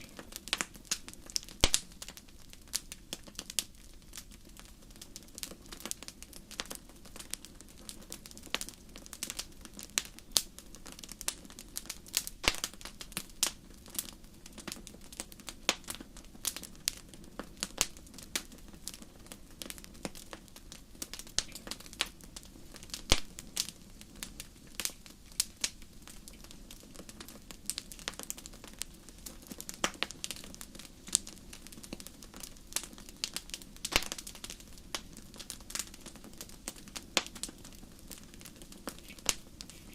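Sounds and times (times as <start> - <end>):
low steady hiss: 0.0 - 39.9
wood fire crackling and popping: 0.0 - 39.9.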